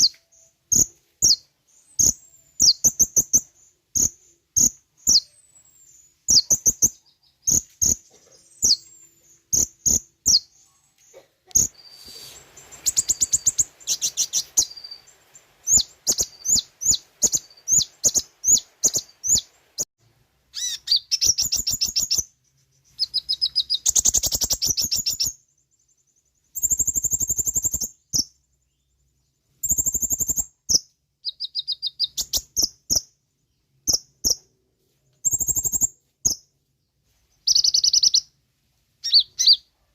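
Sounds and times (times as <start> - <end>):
bird chirping and trilling: 0.0 - 19.9, 20.5 - 25.6, 26.4 - 28.9, 29.6 - 33.2, 35.2 - 36.4, 37.4 - 38.3, 39.0 - 39.7.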